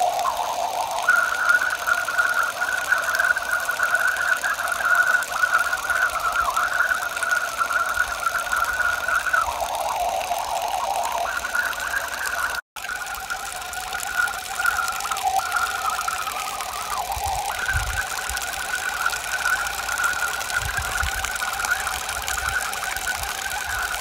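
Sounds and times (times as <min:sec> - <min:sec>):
water pouring onto ground: 0:00.0 - 0:24.0.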